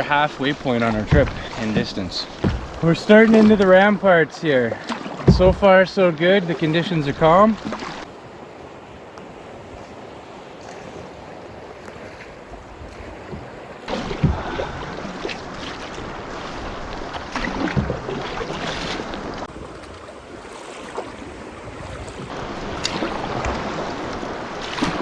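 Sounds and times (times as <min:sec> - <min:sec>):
water sloshing around canoe: 0:00.0 - 0:25.0
water splashes: 0:00.0 - 0:25.0.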